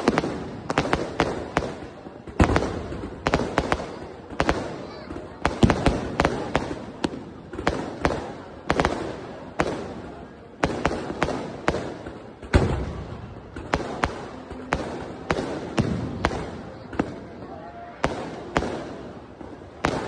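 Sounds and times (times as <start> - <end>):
fireworks exploding: 0.0 - 20.0.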